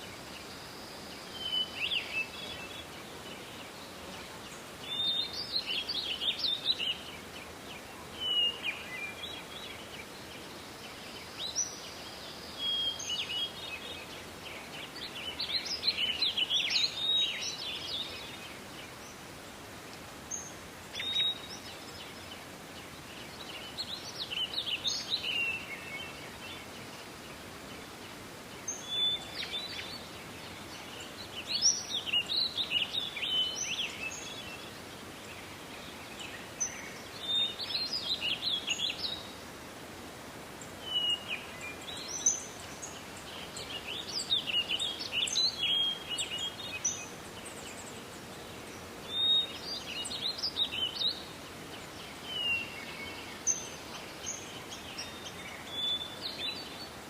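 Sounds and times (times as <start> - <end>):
forest ambience hiss: 0.0 - 57.0
songbirds chirping: 0.0 - 57.0.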